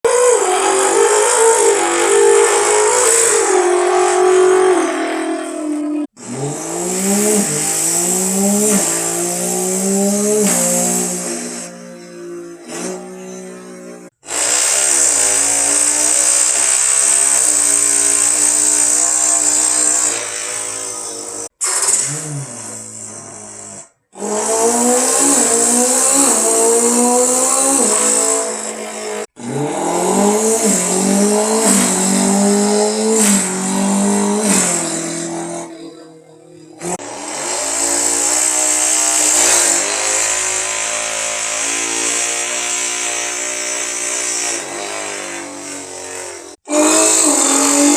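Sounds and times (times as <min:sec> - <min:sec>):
car engines revving: 0:00.0 - 0:44.0, 0:44.6 - 0:47.9.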